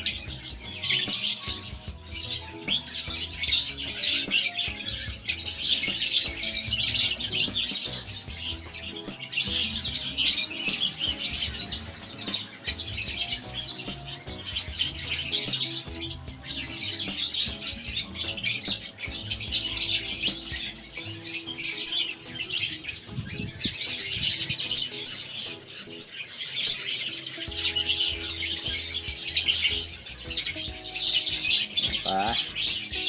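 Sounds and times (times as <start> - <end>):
background music: 0.0 - 33.0
small birds chirping: 0.0 - 33.0.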